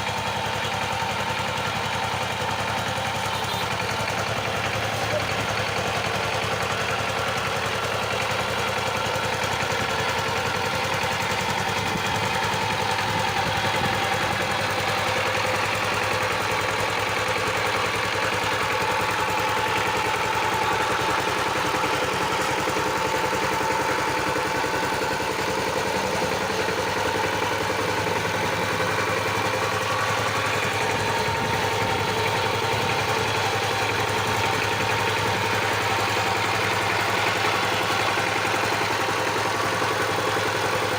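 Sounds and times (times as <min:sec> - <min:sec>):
power tiller engine running: 0:00.0 - 0:40.9.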